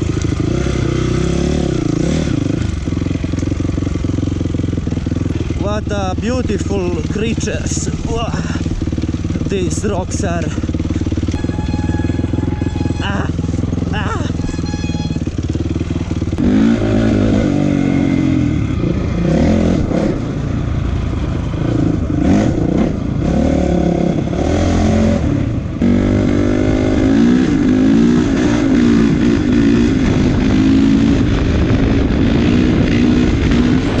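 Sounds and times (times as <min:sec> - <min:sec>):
dirt bike engine revving: 0:00.0 - 0:20.4, 0:21.6 - 0:34.0.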